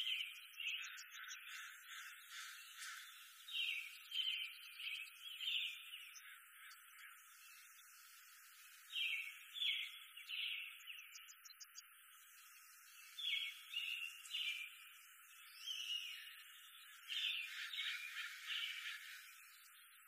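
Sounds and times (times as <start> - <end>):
birds chirping: 0.0 - 20.0
faint steady hiss: 0.0 - 20.0.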